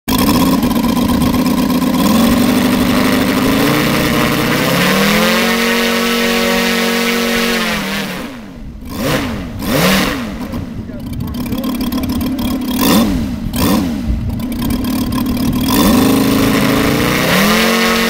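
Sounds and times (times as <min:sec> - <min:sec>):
model aircraft engine running: 0:00.1 - 0:18.0.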